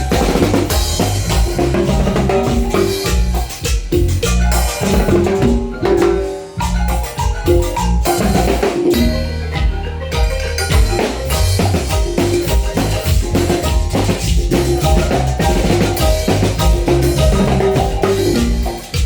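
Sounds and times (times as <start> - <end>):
upbeat marimba band music: 0.0 - 19.0.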